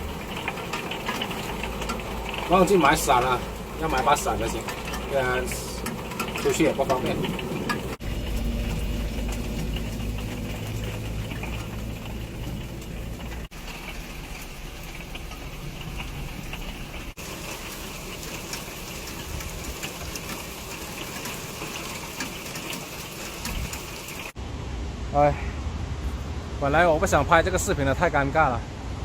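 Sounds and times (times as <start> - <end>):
heavy rain pouring: 0.0 - 27.2.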